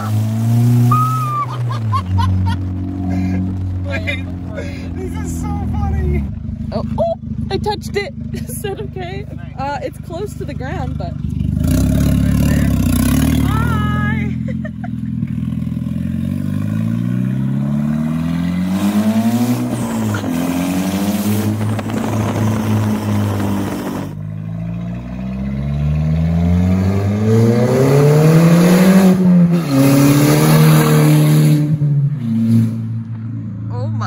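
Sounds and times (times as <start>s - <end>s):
car engine accelerating loudly: 0.0s - 33.3s.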